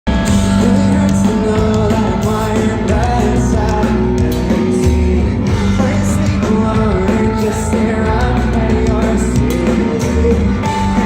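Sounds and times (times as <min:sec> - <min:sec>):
pop-punk band playing live: 0:00.0 - 0:11.0
person singing: 0:00.3 - 0:11.0.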